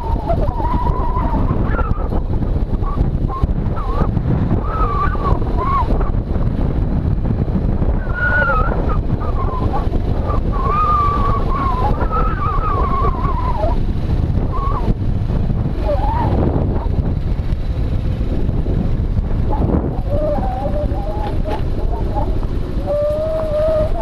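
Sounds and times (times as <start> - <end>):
motorcycle engine: 0.0 - 24.0
wind buffeting microphone: 0.0 - 24.0
tyres on gravel: 4.2 - 24.0.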